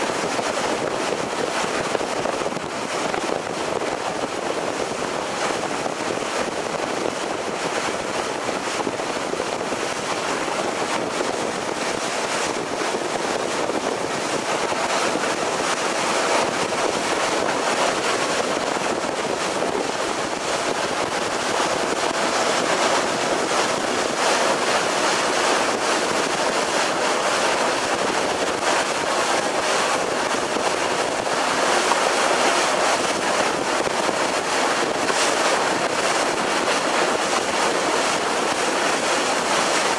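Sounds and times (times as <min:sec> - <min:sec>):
wind and water rushing: 0:00.0 - 0:39.9
wind buffeting microphone: 0:00.0 - 0:39.9.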